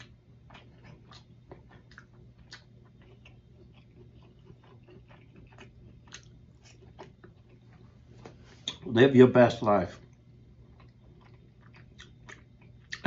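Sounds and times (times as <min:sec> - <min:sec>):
person chewing: 0:00.0 - 0:08.8, 0:10.1 - 0:13.0
low steady hum: 0:00.0 - 0:13.0.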